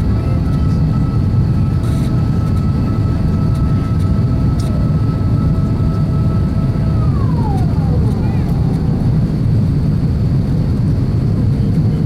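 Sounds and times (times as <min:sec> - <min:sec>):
airplane cabin engine roar: 0:00.0 - 0:12.0
faint high whine: 0:00.1 - 0:10.1.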